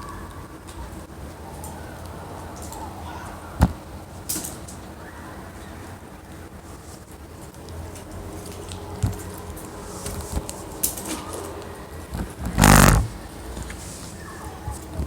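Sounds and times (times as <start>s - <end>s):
small clicks and crackles: 0.1s - 3.0s, 3.6s - 5.0s, 5.6s - 15.0s.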